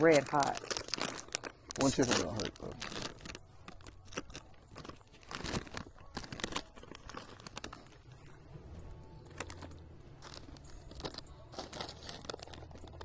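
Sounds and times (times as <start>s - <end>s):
chip bag crinkling: 0.0s - 8.4s, 9.0s - 13.0s
chips being chewed: 0.0s - 13.0s.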